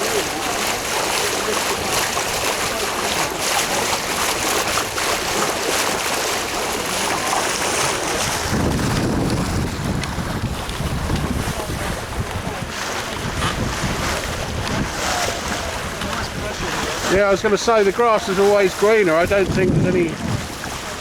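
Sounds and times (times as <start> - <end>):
water rushing along a hull: 0.0 - 21.0
wind buffeting the microphone: 0.0 - 21.0.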